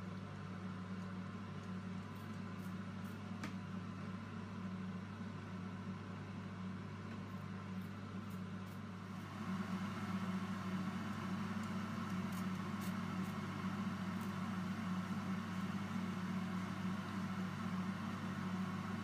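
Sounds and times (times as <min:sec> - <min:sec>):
fan humming: 0:00.0 - 0:19.0.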